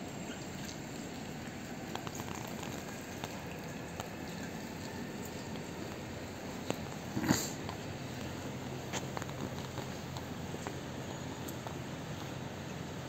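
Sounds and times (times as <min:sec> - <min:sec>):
drips and ticks: 0:00.0 - 0:13.0
steady rain hiss: 0:00.0 - 0:13.0.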